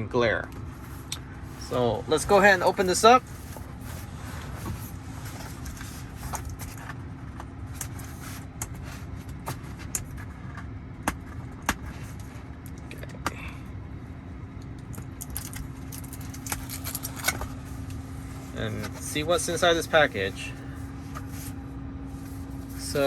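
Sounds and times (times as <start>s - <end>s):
steady low hum: 0.0s - 23.0s
cardboard and plastic rustling: 0.6s - 12.7s, 14.9s - 23.0s.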